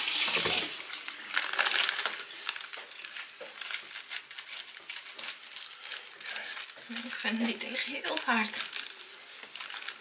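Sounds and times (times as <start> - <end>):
plastic sheet crinkling: 0.0 - 10.0.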